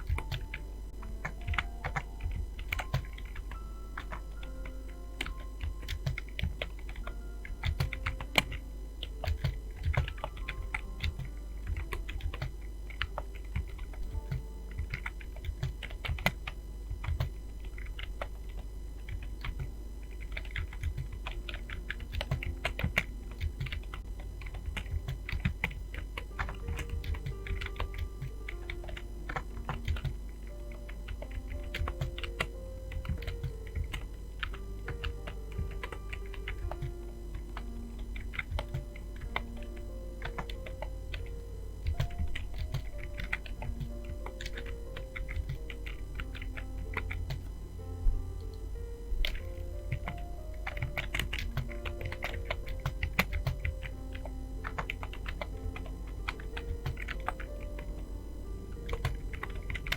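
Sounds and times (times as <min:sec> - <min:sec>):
fast typing on keyboard: 0:00.0 - 0:47.7, 0:48.5 - 0:59.9
steady low hum: 0:00.0 - 0:59.9.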